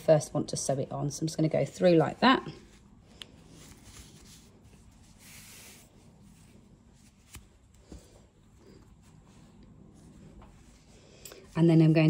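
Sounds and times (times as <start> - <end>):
yarn rustling through fabric: 1.5 - 12.0.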